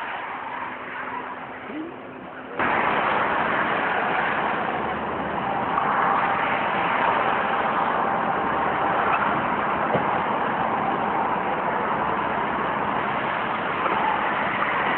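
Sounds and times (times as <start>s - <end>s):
tyres hissing on wet road: 0.0s - 14.9s.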